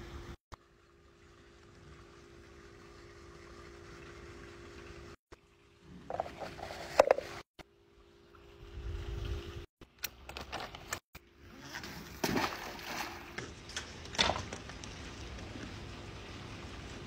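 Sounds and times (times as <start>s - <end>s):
pool water splashing and gurgling: 0.0s - 9.7s, 11.2s - 17.0s.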